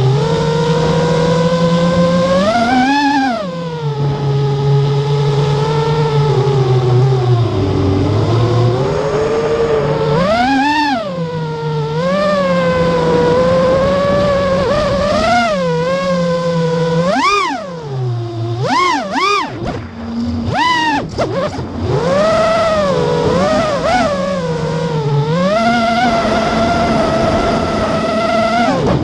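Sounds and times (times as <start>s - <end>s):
motor whine: 0.0s - 29.0s.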